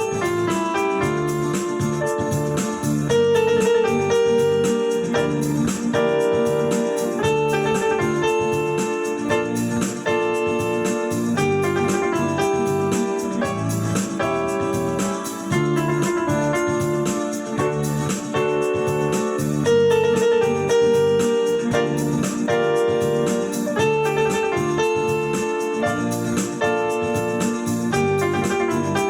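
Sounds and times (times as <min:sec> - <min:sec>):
piano background music with beat: 0:00.0 - 0:29.0.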